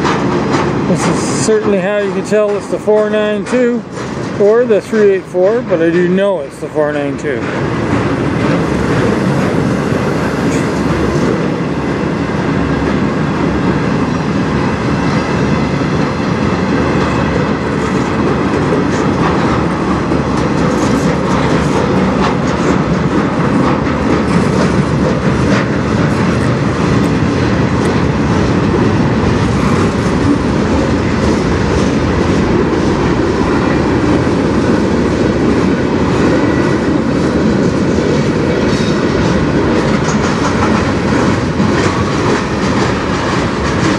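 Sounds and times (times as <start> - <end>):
wheels clicking over rail joints: 0.0 - 14.0, 14.6 - 43.9
train wheels rumbling on rail: 0.0 - 43.9.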